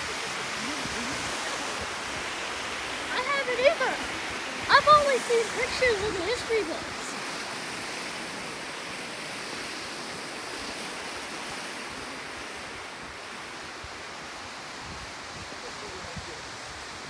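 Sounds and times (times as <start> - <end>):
rushing water of creek and waterfall: 0.0 - 17.0.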